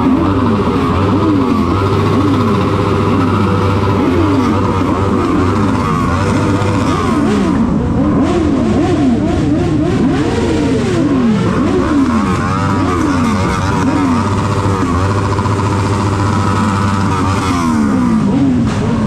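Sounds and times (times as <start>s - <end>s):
low engine hum: 0.0s - 19.0s
motorcycle engines revving: 0.0s - 19.0s.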